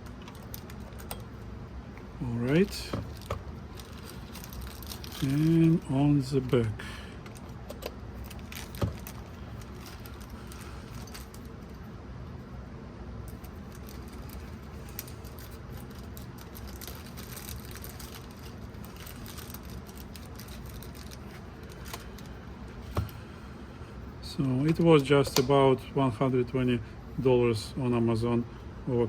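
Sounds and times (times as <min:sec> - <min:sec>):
low background noise: 0:00.0 - 0:29.0.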